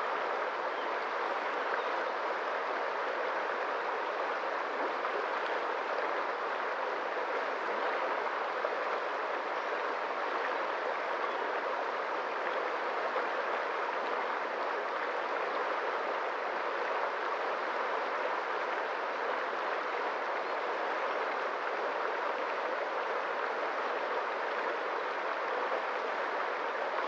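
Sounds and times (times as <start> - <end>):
stream water flowing: 0.0 - 27.0.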